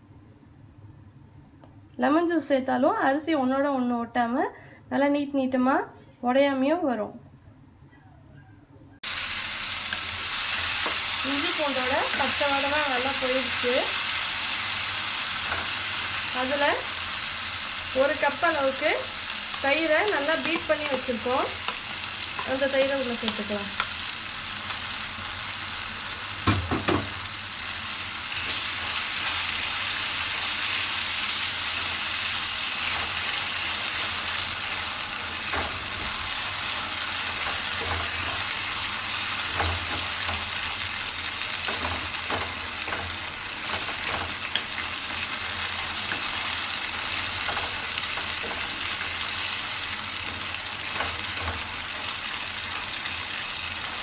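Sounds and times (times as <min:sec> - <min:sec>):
oil sizzling in a pan: 0:09.0 - 0:54.0.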